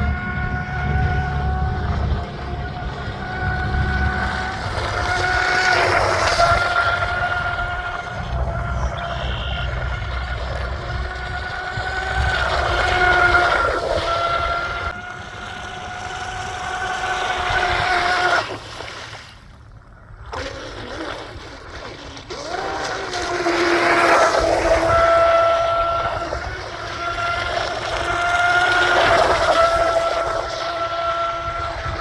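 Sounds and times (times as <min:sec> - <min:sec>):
electric motor high whine: 0:00.0 - 0:18.6, 0:22.3 - 0:32.0
wind on microphone: 0:00.0 - 0:32.0.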